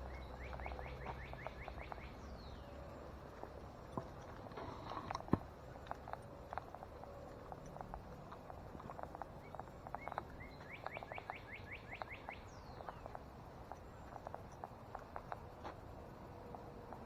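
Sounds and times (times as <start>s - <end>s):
footsteps on a woodland trail: 0.0s - 17.0s
songbird singing: 0.0s - 17.0s.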